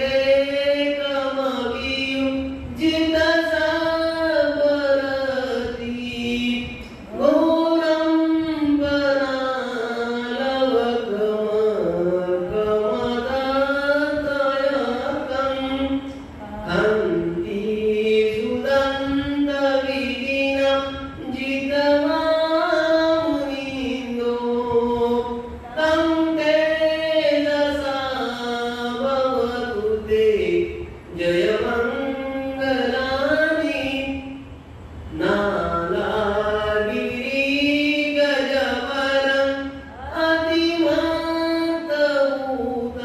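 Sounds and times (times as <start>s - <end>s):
man chanting melodically: 0.0s - 43.0s.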